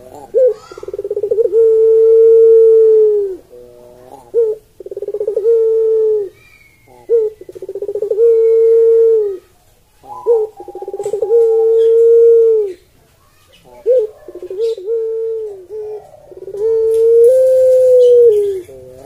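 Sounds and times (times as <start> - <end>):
dove cooing: 0.0 - 13.0, 13.6 - 19.0.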